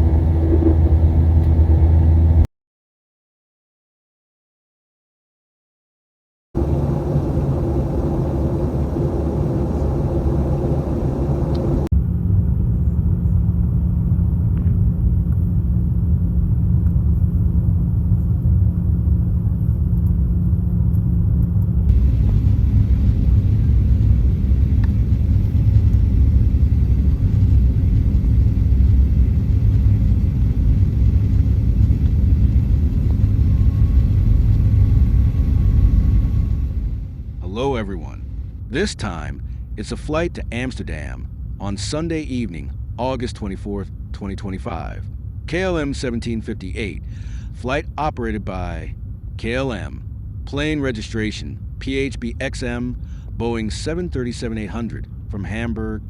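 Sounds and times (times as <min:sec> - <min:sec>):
jet airliner cabin rumble: 0:00.0 - 0:02.5, 0:06.6 - 0:56.0
steady low hum: 0:00.0 - 0:02.5, 0:06.6 - 0:56.0.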